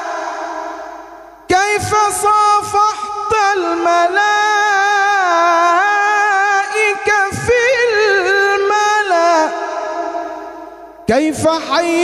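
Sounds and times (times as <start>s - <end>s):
man singing unaccompanied: 1.5s - 10.2s, 11.0s - 12.0s.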